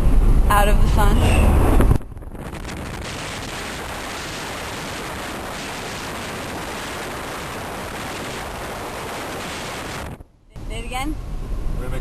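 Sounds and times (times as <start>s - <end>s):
wind noise in moving car: 0.0s - 12.0s.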